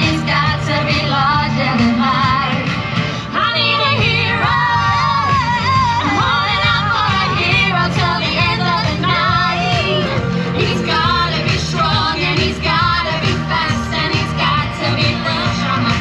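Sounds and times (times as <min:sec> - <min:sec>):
pop-rock song with vocals: 0:00.0 - 0:16.0.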